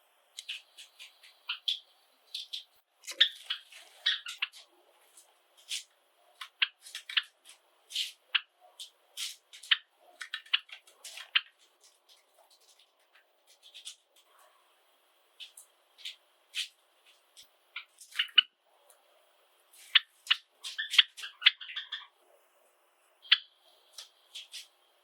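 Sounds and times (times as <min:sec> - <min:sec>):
sparrows chirping and clicking: 0:00.3 - 0:14.6, 0:15.4 - 0:22.2, 0:23.2 - 0:25.0.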